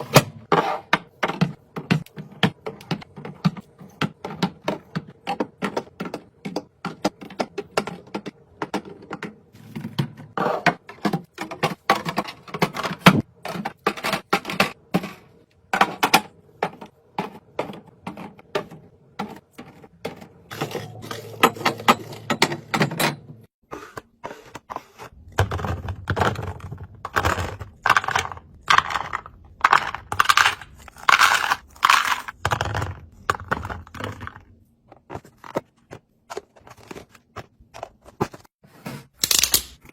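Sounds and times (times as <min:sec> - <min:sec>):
food packages clicking and tapping: 0:00.9 - 0:23.2, 0:24.0 - 0:38.5, 0:39.1 - 0:39.9.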